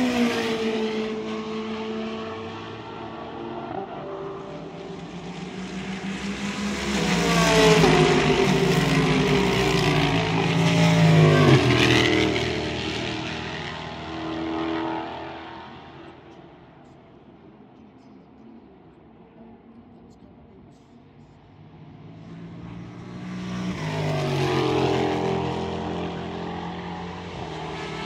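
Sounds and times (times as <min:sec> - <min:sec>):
race car engine passing by: 0:00.0 - 0:16.3, 0:21.7 - 0:28.0.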